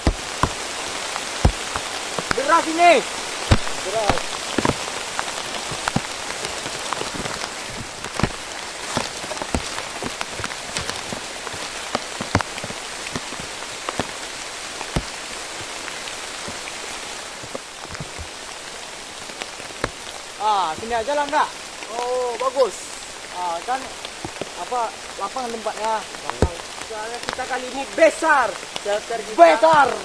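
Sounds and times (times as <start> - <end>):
heavy rain falling: 0.0 - 30.0
large raindrops tapping: 0.0 - 30.0.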